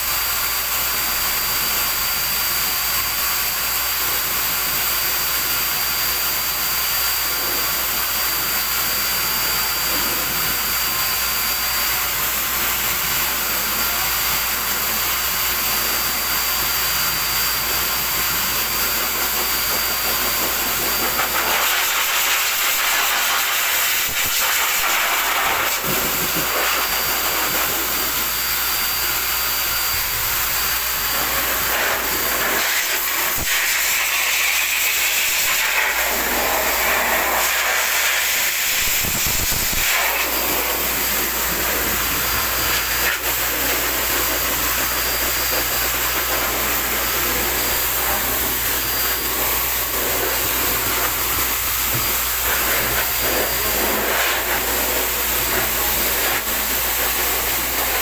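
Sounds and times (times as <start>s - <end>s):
blower dryer rushing air: 0.0s - 58.0s.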